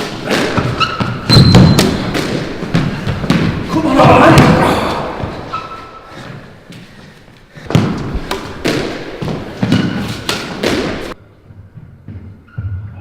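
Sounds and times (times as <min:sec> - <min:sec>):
squash ball hitting rackets and walls: 0:00.0 - 0:06.9, 0:07.6 - 0:12.8.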